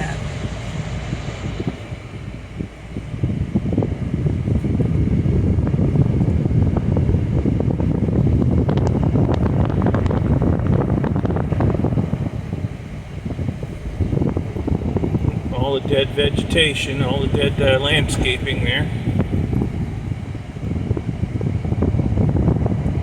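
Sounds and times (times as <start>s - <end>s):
car driving on road: 0.0s - 23.0s
wind buffeting microphone: 0.0s - 23.0s.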